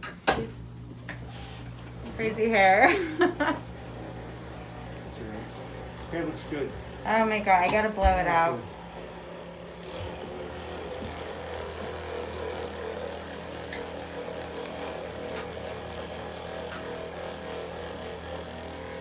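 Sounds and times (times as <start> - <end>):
massager motor hum: 0.0 - 19.0.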